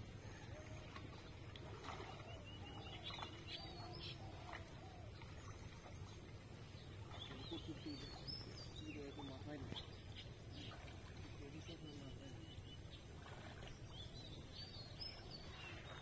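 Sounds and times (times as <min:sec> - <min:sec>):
birds chirping: 0:00.0 - 0:16.0
low steady background noise: 0:00.0 - 0:16.0.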